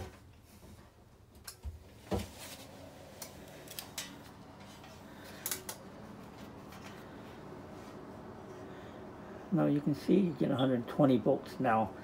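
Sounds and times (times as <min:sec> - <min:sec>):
refrigerator humming: 0:00.0 - 0:12.0.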